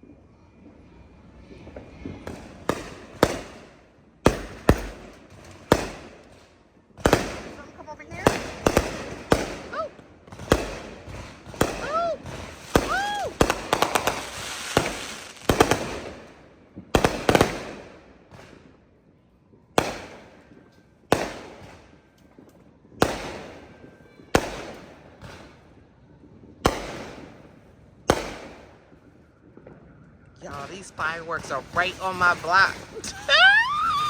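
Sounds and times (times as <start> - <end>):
fireworks crackling: 0.0 - 34.0
fireworks bangs echoing: 1.4 - 19.0, 19.7 - 34.0.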